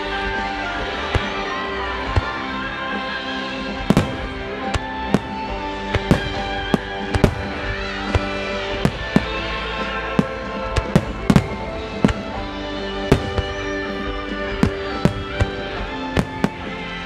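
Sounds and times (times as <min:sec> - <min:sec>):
music with long held notes: 0:00.0 - 0:17.0.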